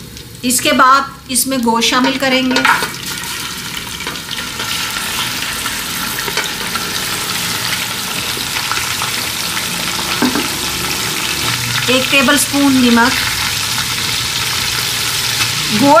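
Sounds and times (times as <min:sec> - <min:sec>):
meat sizzling in fat: 0:02.3 - 0:16.0.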